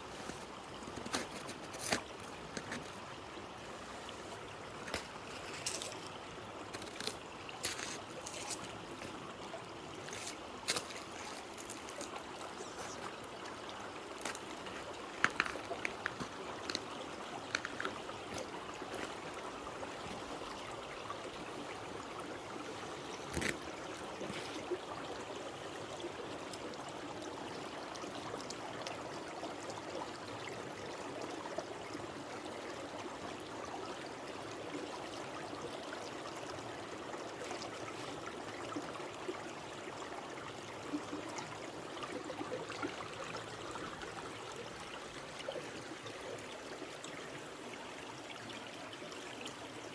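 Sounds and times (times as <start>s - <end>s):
stream water running: 0.0s - 49.9s.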